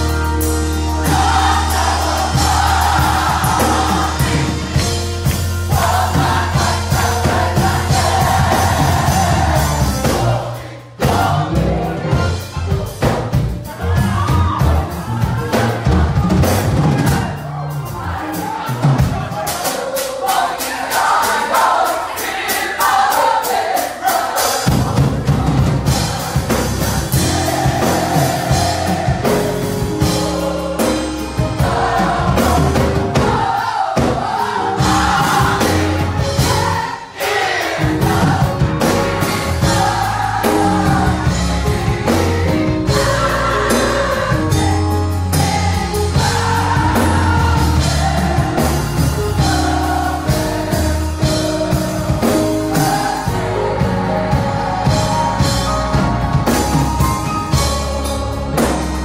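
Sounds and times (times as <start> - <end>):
bass guitar: 0.0 - 19.3, 24.8 - 33.4, 37.8 - 59.0
drums beating: 0.0 - 59.0
gospel choir singing: 0.0 - 59.0.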